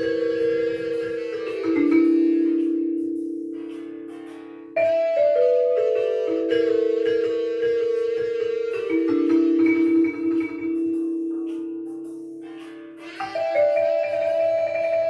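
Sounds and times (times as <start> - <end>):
tuned mallet percussion music: 0.0 - 15.0.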